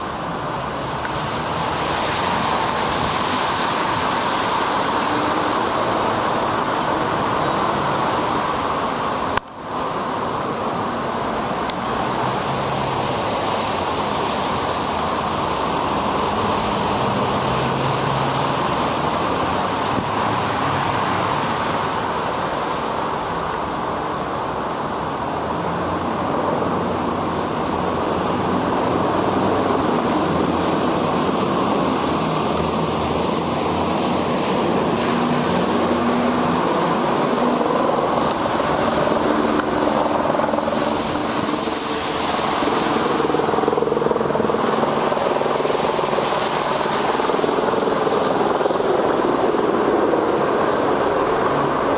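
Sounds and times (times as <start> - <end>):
air and wet road rushing: 0.0 - 51.9
motor traffic hum: 0.0 - 51.9.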